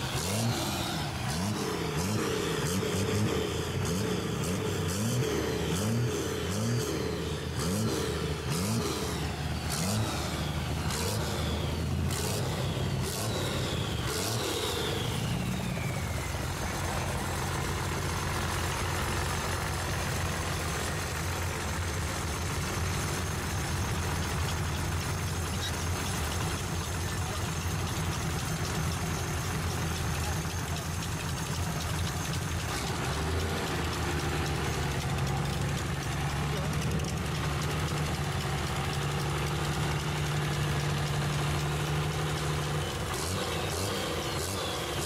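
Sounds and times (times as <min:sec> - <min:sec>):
diesel engine revving and idling: 0:00.0 - 0:45.0.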